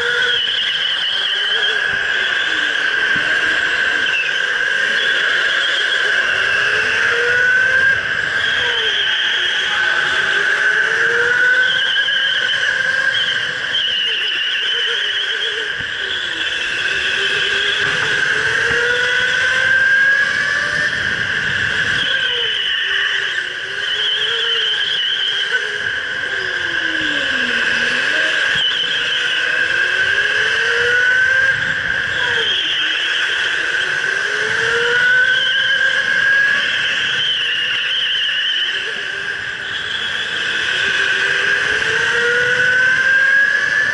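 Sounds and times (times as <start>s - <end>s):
electric go-kart motor whining: 0.0s - 43.9s.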